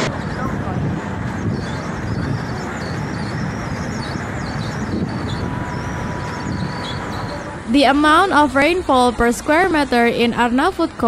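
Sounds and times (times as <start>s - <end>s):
traffic: 0.0s - 11.0s.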